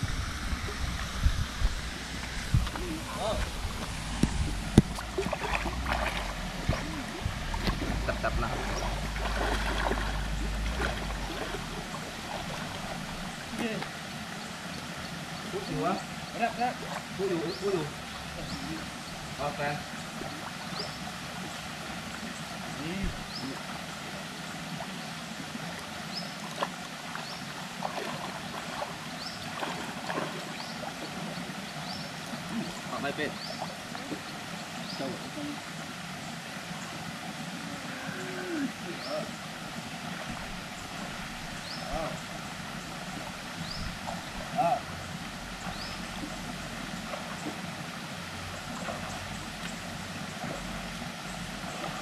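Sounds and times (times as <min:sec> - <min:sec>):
steady background hiss: 0:00.0 - 0:52.0
water splashing and sloshing: 0:00.0 - 0:52.0.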